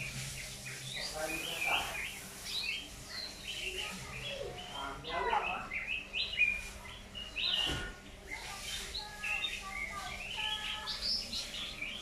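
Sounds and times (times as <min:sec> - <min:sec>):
songbird chirping and whistling: 0:00.0 - 0:12.0.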